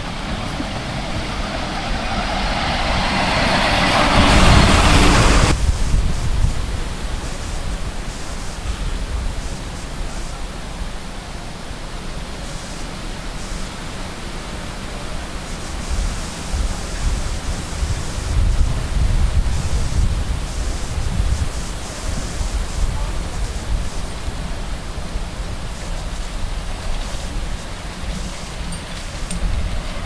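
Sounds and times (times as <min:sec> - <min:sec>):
miniature steam train rumbling: 0:00.0 - 0:30.0
wind noise on microphone: 0:00.0 - 0:30.0.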